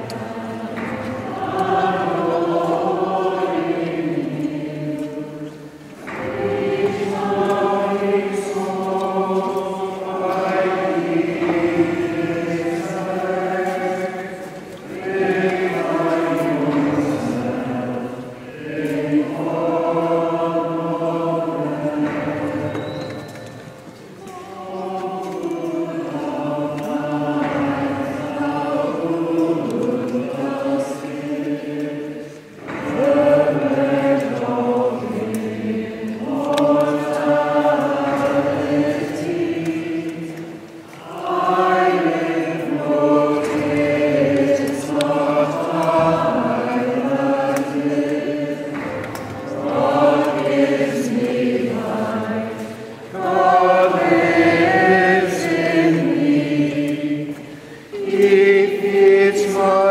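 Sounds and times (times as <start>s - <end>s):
choir singing a slow hymn: 0.0s - 59.9s.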